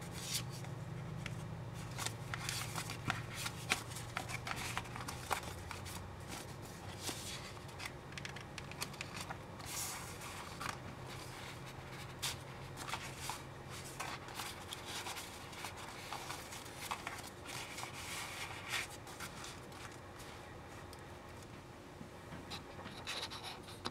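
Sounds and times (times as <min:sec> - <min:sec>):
paper and card rustling: 0:00.0 - 0:21.0, 0:22.5 - 0:23.9
faint low hum: 0:00.0 - 0:23.9.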